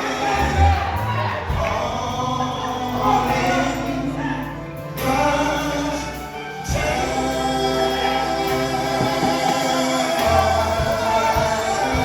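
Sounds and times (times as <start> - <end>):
bass line: 0.0 - 12.0
choir singing held notes: 0.0 - 12.0.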